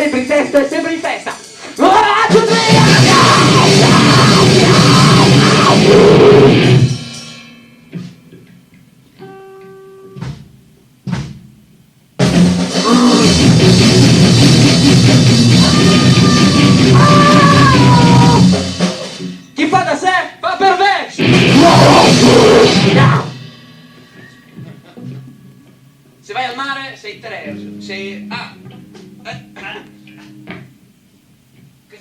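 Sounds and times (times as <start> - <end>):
noise rock band: 0.0 - 32.0.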